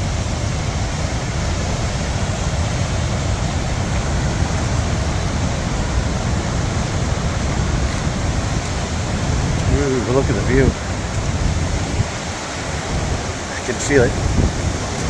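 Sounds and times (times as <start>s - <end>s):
waterfall roaring: 0.0s - 15.0s
wind buffeting microphone: 0.0s - 15.0s.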